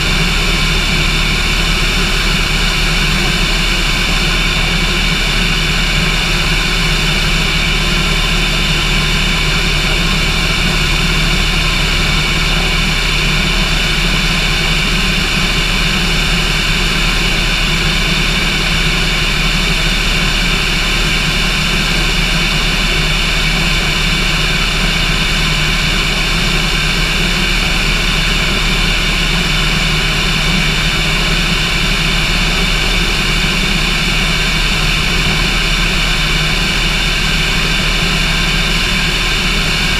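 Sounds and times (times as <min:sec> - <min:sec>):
airplane engine droning: 0:00.0 - 0:39.9.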